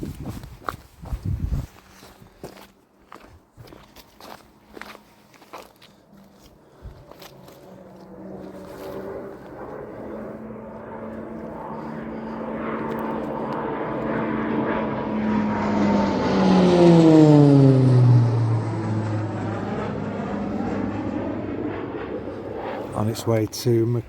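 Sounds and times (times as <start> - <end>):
propeller plane flying past: 3.9 - 24.0.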